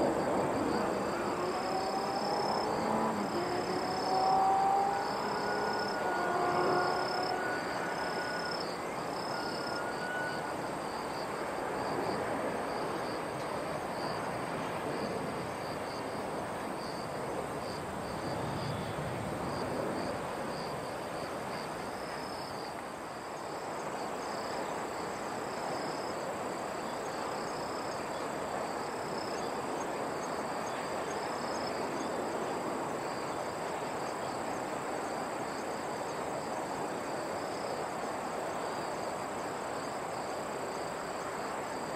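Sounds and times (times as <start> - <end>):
insects chirping in trills: 0.0 - 41.9
outdoor background noise: 0.0 - 41.9.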